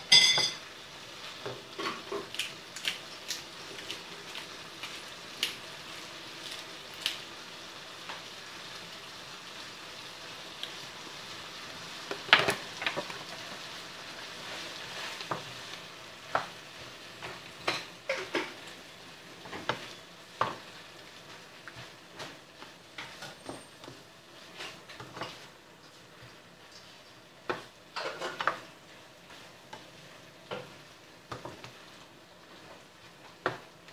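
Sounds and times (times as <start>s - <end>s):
food sizzling in a frying pan: 0.0s - 33.9s.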